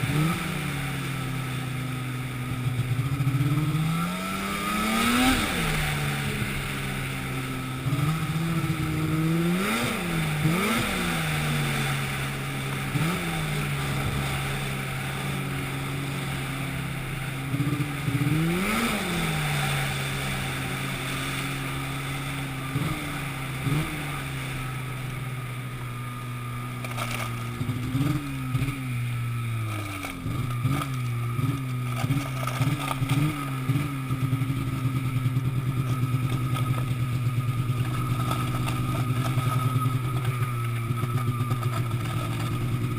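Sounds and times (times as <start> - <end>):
engine revving: 0.0 - 42.9.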